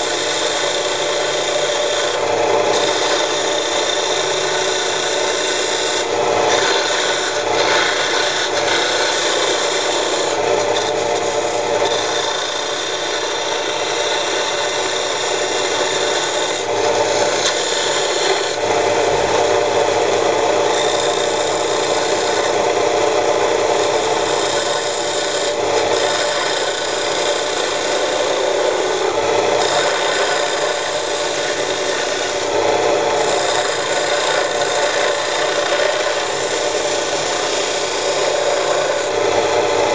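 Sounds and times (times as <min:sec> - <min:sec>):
chisel scraping spinning wood: 0:00.0 - 0:39.9
wood lathe motor running: 0:00.0 - 0:39.9.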